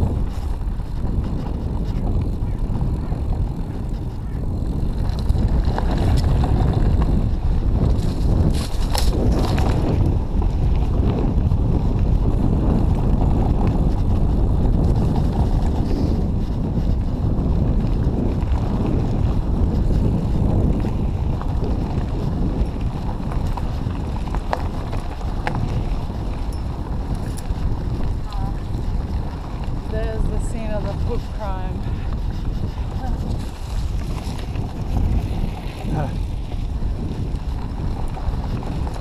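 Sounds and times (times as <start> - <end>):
mountain bike rolling on trail: 0.0 - 39.0
wind buffeting microphone: 0.0 - 39.0.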